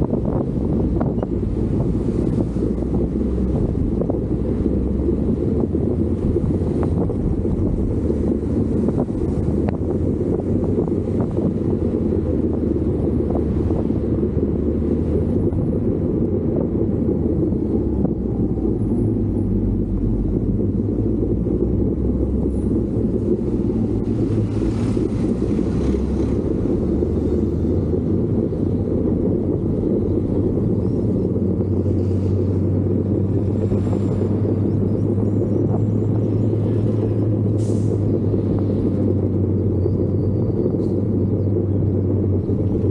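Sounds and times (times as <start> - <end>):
vehicle engine rumble: 0.0 - 42.9
wind buffeting the microphone: 0.0 - 42.9.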